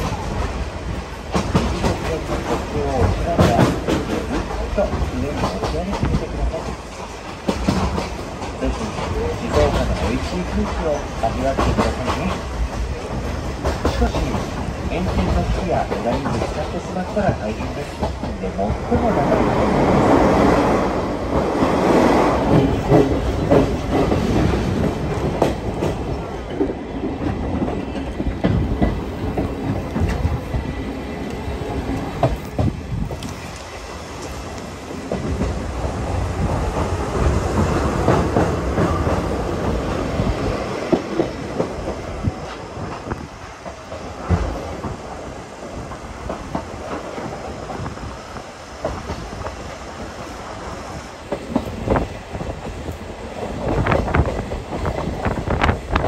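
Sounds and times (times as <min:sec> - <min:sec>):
train coach rumble: 0:00.0 - 0:56.0
wheels clicking over rail joints: 0:00.0 - 0:56.0.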